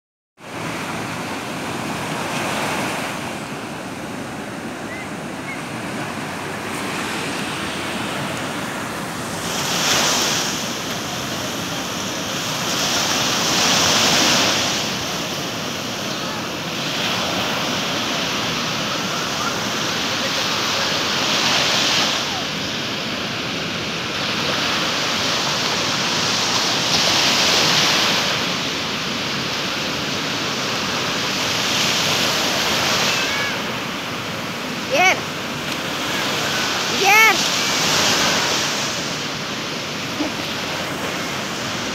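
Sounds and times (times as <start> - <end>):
waves breaking on shore: 0.4 - 41.9.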